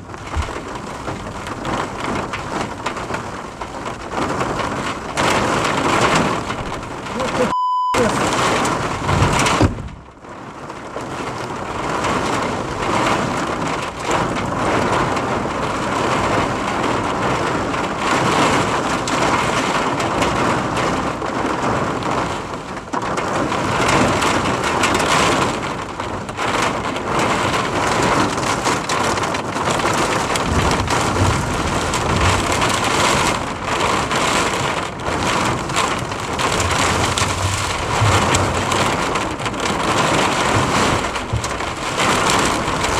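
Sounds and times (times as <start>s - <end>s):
gusting wind: 0.0s - 7.3s, 8.1s - 42.9s
heavy rain pouring: 0.0s - 42.9s.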